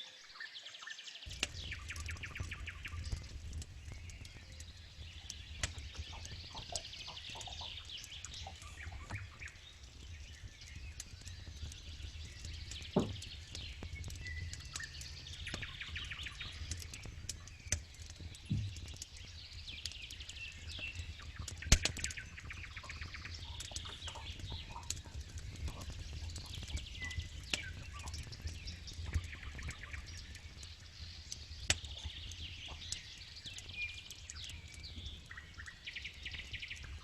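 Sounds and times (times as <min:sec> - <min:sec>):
birds chirping: 0:00.0 - 0:37.0
campfire crackling: 0:01.2 - 0:37.0.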